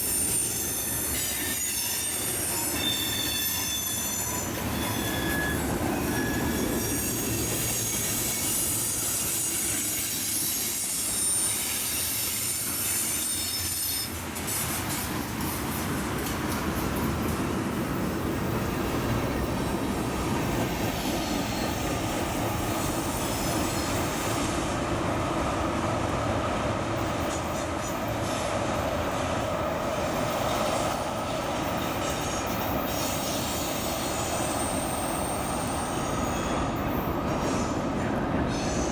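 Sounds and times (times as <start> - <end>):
faint high wheel squeal: 0.0 - 15.0, 18.3 - 24.6, 27.0 - 38.9
train cars rumbling on rails: 0.0 - 38.9.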